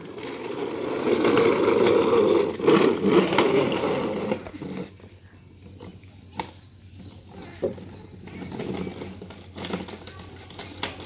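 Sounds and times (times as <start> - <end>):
plastic wheels rolling on paving: 0.0 - 11.0.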